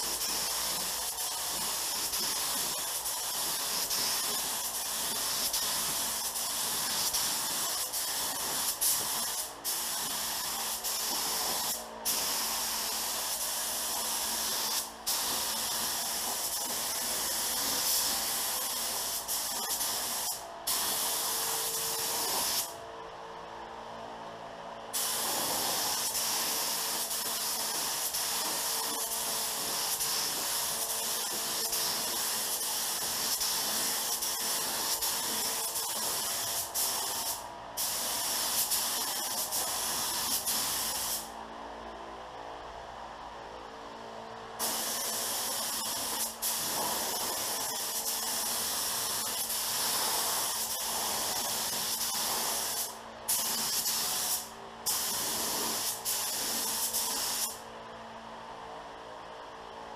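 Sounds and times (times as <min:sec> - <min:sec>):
spray gun air hiss: 0:00.0 - 0:22.8, 0:24.9 - 0:41.4, 0:44.6 - 0:57.6.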